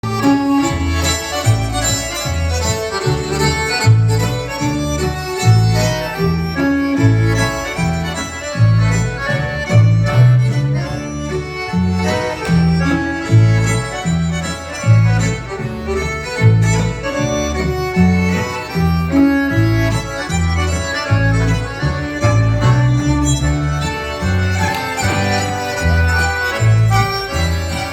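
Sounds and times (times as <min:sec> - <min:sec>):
dance band playing: 0:00.0 - 0:27.9.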